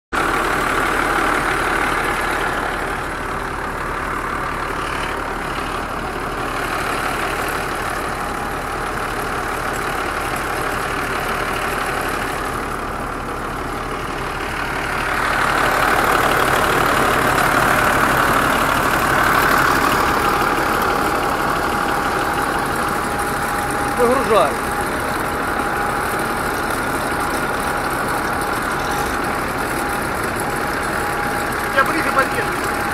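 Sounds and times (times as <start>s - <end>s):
combine harvester running: 0.2s - 32.9s.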